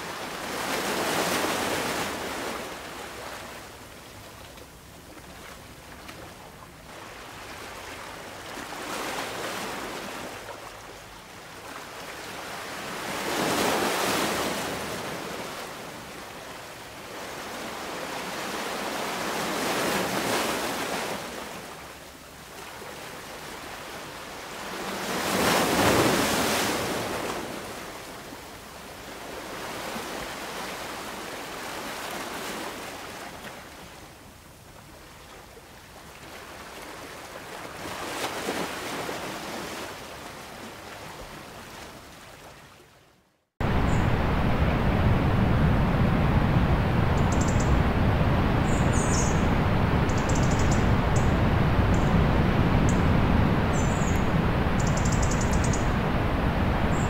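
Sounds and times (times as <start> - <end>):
waves breaking: 0.0 - 34.2, 34.8 - 43.0, 43.6 - 57.0.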